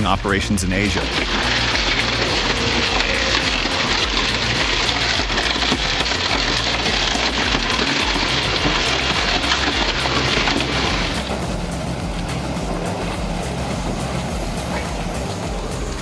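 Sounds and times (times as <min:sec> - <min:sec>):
industrial shredder grinding: 0:01.0 - 0:16.0.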